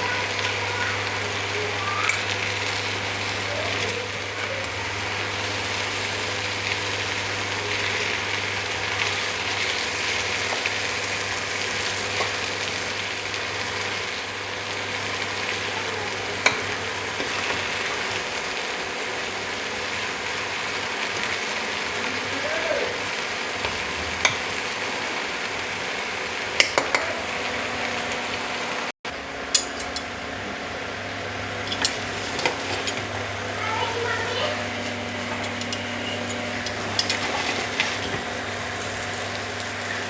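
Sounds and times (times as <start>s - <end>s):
food sizzling in a pan: 0.0s - 28.9s, 31.1s - 40.0s.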